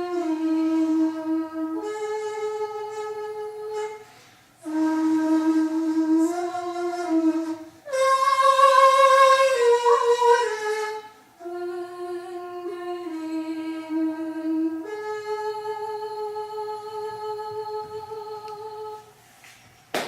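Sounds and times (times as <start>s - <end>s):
bamboo flute long notes: 0.0s - 19.0s.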